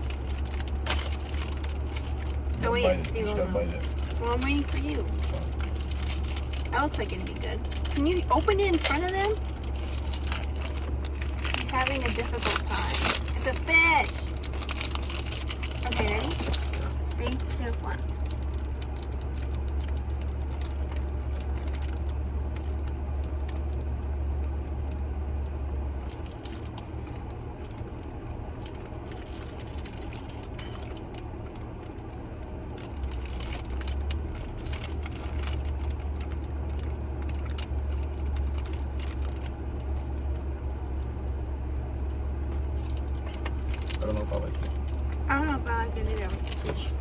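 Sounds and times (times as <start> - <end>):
small clicks and rustles: 0.0 - 2.5, 3.8 - 13.6, 14.3 - 47.0
car cabin engine hum: 0.0 - 47.0.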